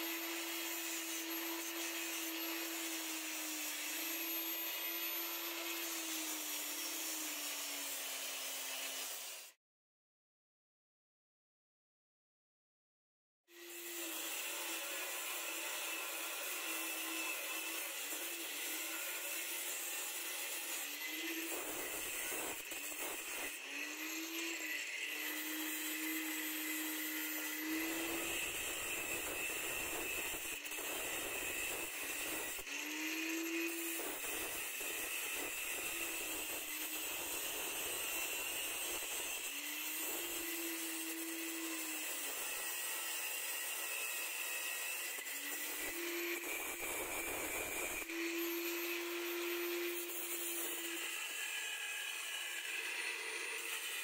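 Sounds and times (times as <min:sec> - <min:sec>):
angle grinder grinding metal: 0:00.0 - 0:09.6, 0:13.5 - 0:54.0.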